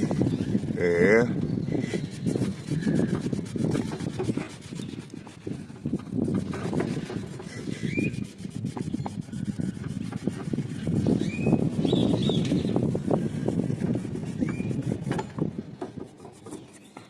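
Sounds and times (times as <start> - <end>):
hand scrubbing and scraping: 0.0 - 17.0.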